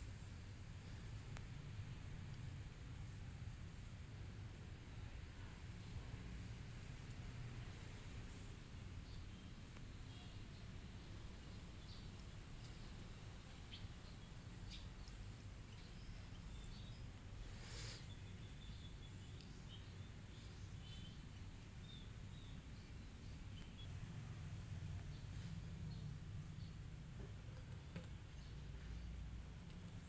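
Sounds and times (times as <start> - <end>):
insect drone: 0.0 - 30.0.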